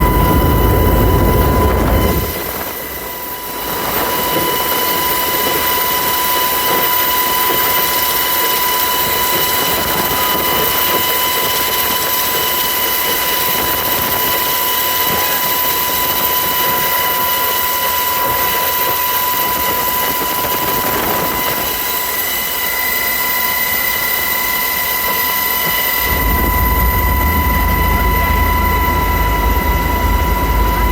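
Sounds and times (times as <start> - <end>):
helicopter deep rumble: 0.0 - 30.9
helicopter whine in cabin: 0.0 - 30.9.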